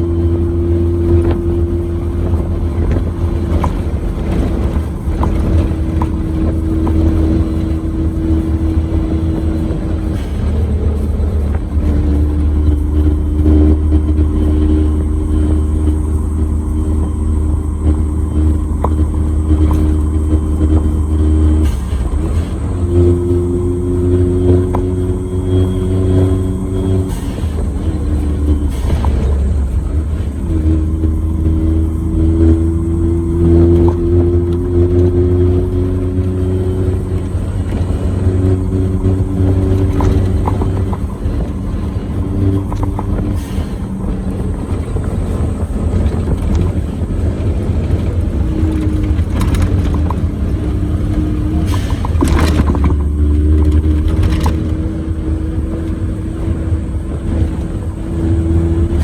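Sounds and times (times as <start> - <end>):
car engine under load: 0.0 - 59.0
tyre drone on road: 0.0 - 59.0.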